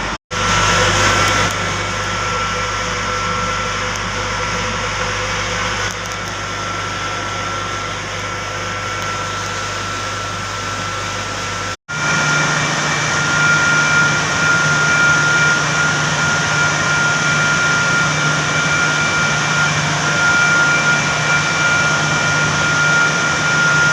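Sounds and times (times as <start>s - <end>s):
electric motor hum and whine: 0.0s - 23.9s
steady high whine: 0.0s - 23.9s.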